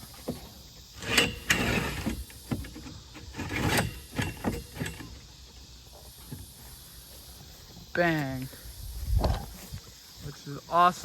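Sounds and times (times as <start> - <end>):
rustling and scraping: 0.0 - 10.4.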